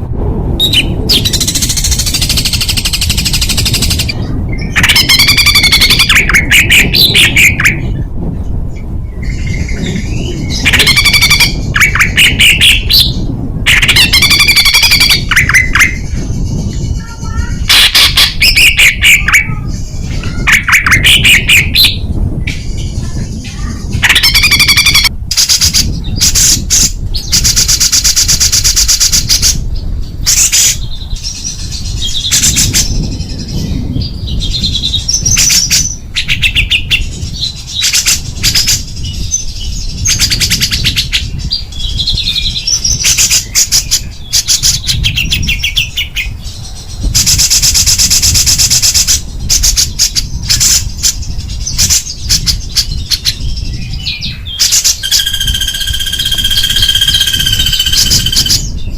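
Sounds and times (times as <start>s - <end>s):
high bird chirps and whistles: 0.6s - 8.1s, 9.0s - 58.9s
songbird singing harsh trills: 0.6s - 8.1s, 9.0s - 58.9s.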